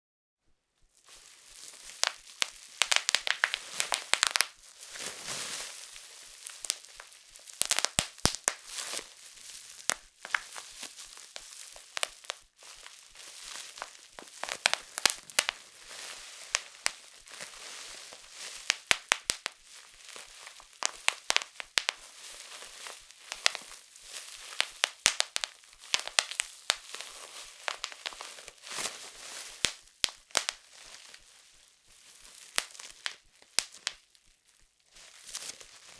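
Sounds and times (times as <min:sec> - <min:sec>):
bubble wrap popping: 0:00.9 - 0:35.9
plastic crinkling rustle: 0:01.0 - 0:35.9.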